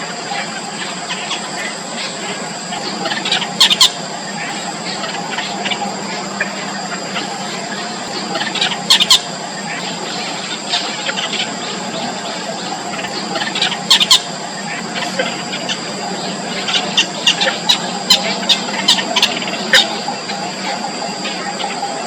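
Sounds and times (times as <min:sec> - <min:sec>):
high-pitched whine: 0:00.0 - 0:22.0
nestling birds cheeping: 0:00.0 - 0:22.0
steady hiss: 0:00.0 - 0:22.0.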